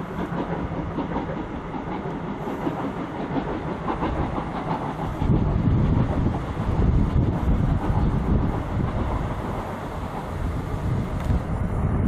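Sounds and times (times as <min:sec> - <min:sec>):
wheels clicking over rail joints: 0:00.0 - 0:11.7
diesel locomotive engine running: 0:00.0 - 0:12.0.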